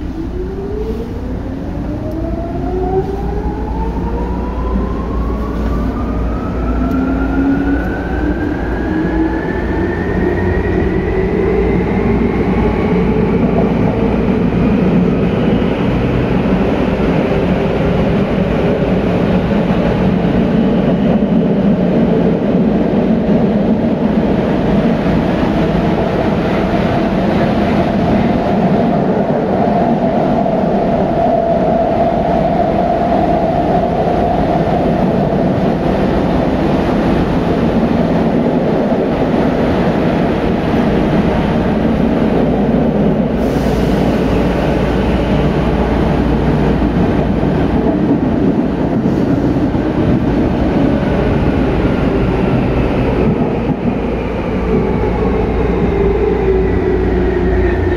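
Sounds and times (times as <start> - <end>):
train motor and wheel noise: 0.0 - 57.9.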